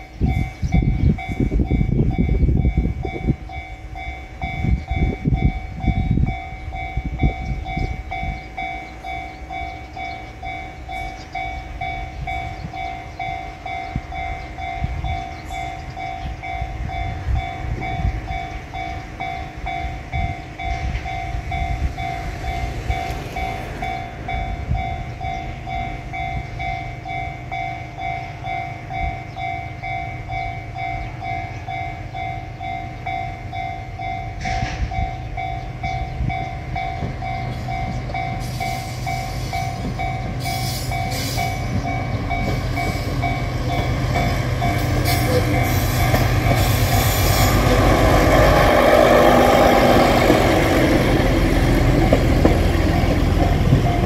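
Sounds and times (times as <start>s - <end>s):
level crossing warning bell: 0.0s - 54.0s
railcar diesel engine rumbling: 0.0s - 54.0s
wheel and rail noise: 0.0s - 54.0s.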